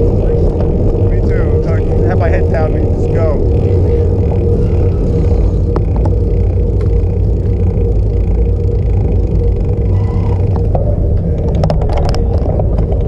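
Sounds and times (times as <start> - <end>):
road and tyre noise: 0.0 - 13.0
wind rushing over microphone: 0.0 - 13.0.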